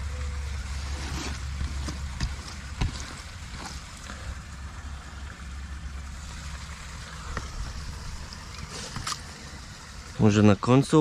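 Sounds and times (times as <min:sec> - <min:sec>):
low rumble and hiss: 0:00.0 - 0:11.0.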